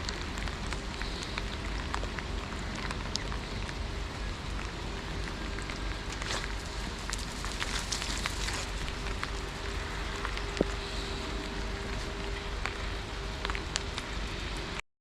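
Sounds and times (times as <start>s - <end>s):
steady rain falling: 0.0s - 14.8s.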